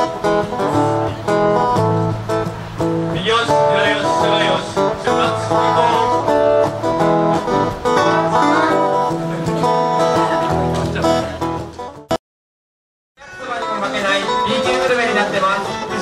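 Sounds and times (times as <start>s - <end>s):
acoustic guitar picking: 0.0s - 12.2s, 13.2s - 16.0s.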